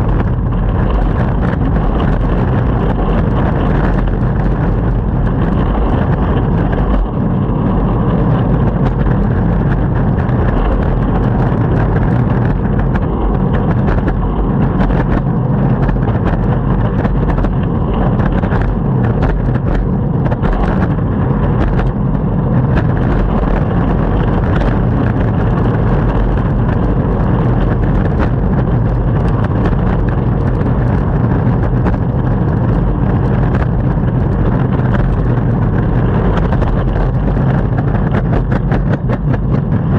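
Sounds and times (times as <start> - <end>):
longboard wheels rolling on pavement: 0.0 - 39.9.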